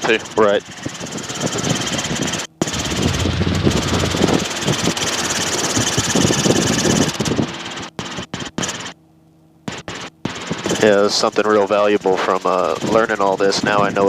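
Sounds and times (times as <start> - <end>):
helicopter engine and rotor throb: 0.0 - 9.0, 9.6 - 14.0.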